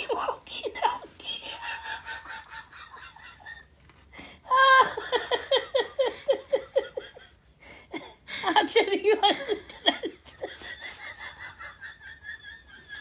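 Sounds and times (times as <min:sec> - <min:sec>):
woman laughing: 0:00.0 - 0:13.0.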